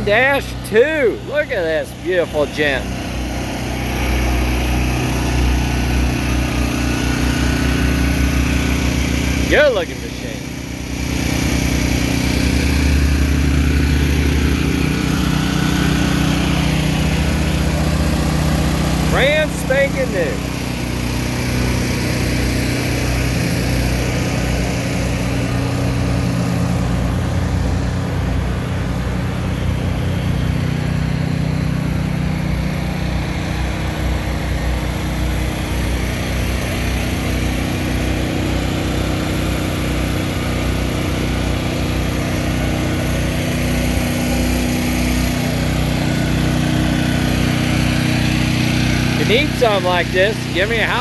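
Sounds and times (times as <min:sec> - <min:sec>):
diesel engine running steadily: 0:00.0 - 0:51.0.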